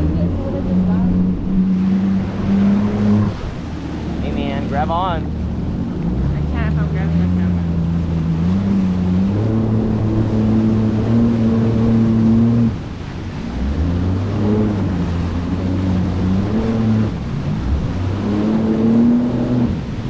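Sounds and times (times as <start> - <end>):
boat engine running: 0.0 - 20.0
water noise: 0.0 - 20.0
wind on microphone: 0.0 - 20.0.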